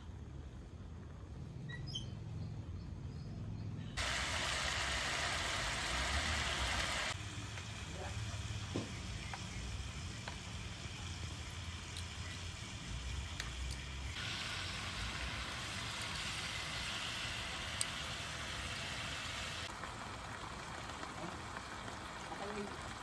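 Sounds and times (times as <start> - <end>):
meat sizzling in hot oil: 4.0 - 23.0.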